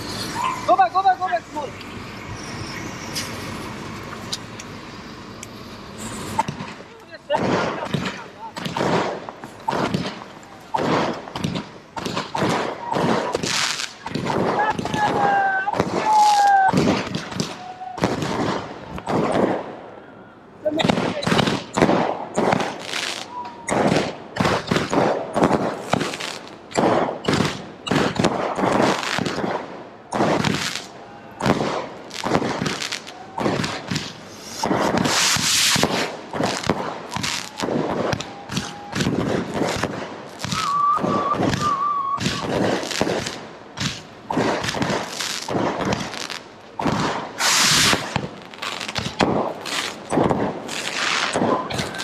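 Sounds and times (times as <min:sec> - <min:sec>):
firework hissing bursts: 0:00.0 - 0:19.8, 0:20.6 - 0:52.0
fireworks bangs and crackles: 0:00.0 - 0:52.0.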